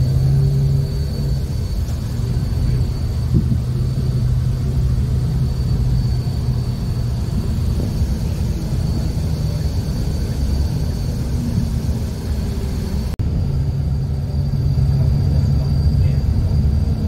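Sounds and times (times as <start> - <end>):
faint high whine: 0.0 - 17.0
vehicle engine and road rumble: 0.0 - 17.0.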